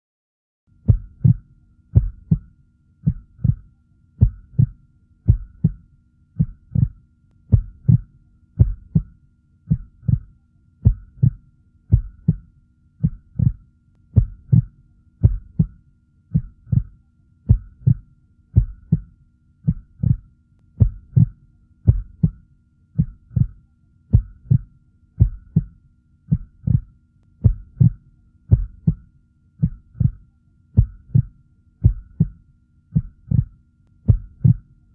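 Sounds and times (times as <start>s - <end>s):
faint steady hum: 0.7s - 34.9s
heartbeat: 0.8s - 22.4s, 23.0s - 30.2s, 30.8s - 34.7s.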